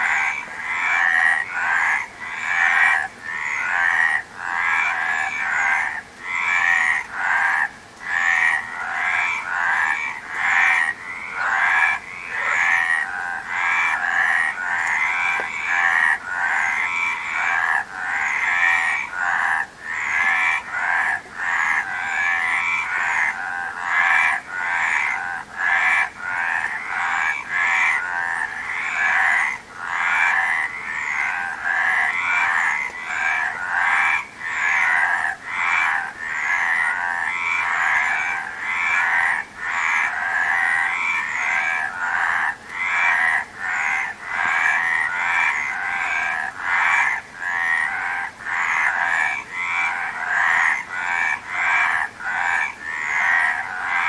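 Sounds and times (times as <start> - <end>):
frogs croaking in chorus: 0.0 - 54.0.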